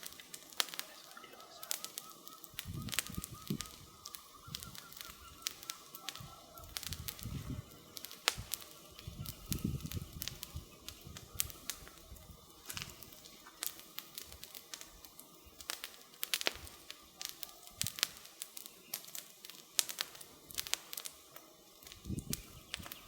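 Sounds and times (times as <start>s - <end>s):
campfire pops and snaps: 0.0s - 23.0s
fire low rumble: 0.0s - 23.0s.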